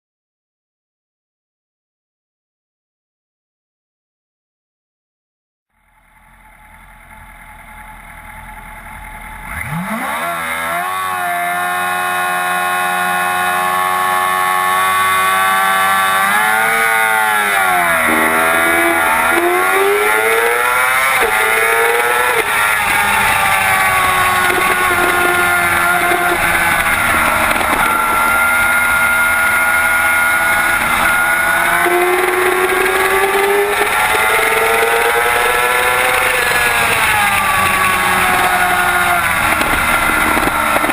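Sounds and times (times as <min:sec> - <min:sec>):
motorcycle engine revving high: 0:06.1 - 0:40.9.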